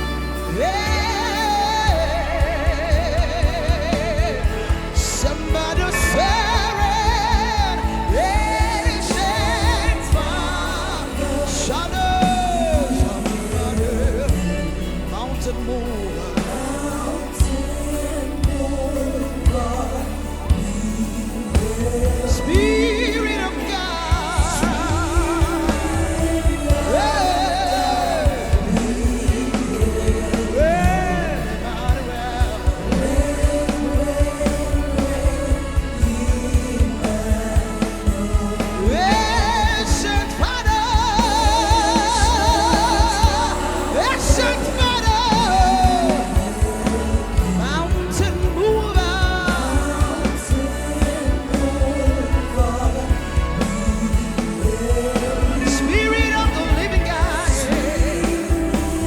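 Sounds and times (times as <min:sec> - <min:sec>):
bass: 0:00.0 - 0:59.0
keyboard: 0:00.0 - 0:59.0
person singing long sliding notes: 0:00.0 - 0:59.0
steady drum beat: 0:00.0 - 0:59.0.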